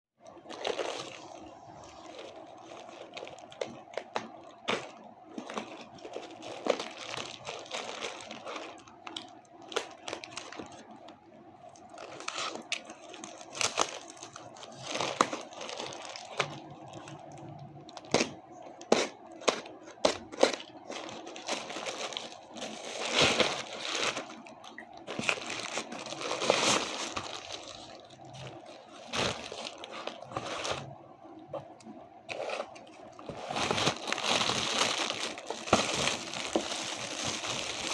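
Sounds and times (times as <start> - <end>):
parcel packaging crinkled and torn: 0.2 - 37.9.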